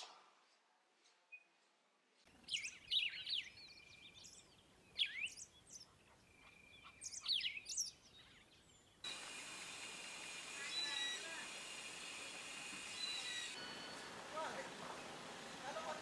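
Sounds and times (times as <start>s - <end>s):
birdsong chirps and whistles: 2.5s - 16.0s.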